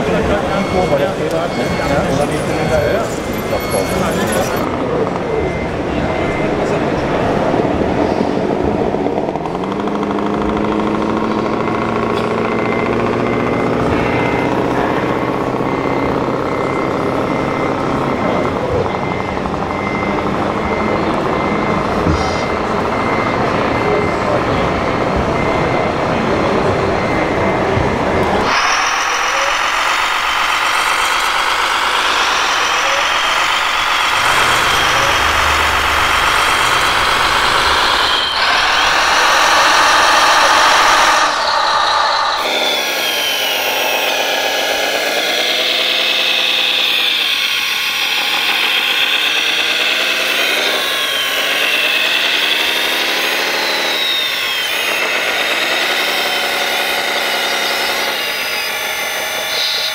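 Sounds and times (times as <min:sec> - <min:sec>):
toy electric motors whining: 0:00.0 - 0:59.9.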